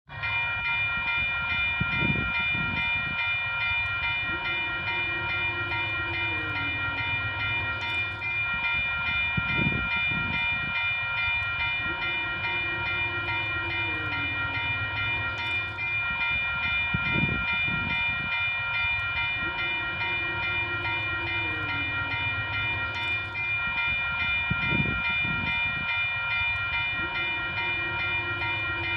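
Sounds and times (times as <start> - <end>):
locomotive bell ringing: 0.1 - 28.9
low train rumble: 0.1 - 28.9.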